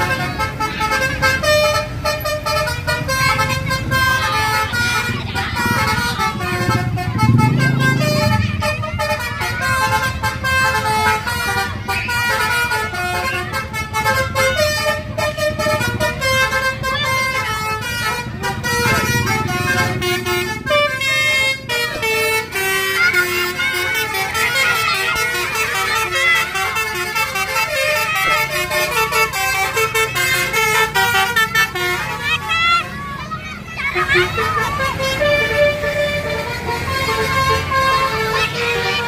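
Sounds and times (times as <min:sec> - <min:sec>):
bus musical horn: 0:00.0 - 0:39.0.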